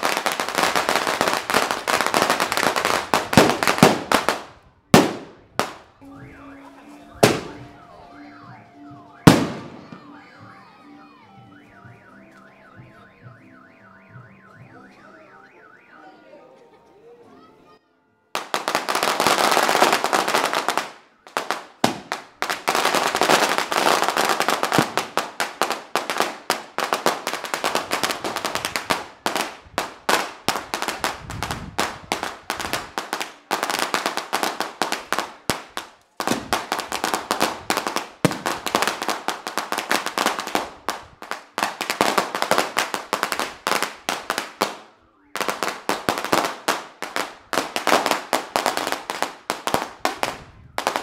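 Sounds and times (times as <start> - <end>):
firecracker strings crackling: 0.0 - 15.9, 18.3 - 51.0.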